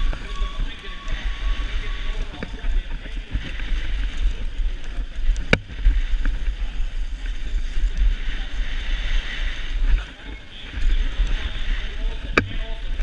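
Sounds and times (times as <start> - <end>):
bike tyre noise on dirt: 0.0 - 13.0
wind rush on microphone: 0.0 - 13.0.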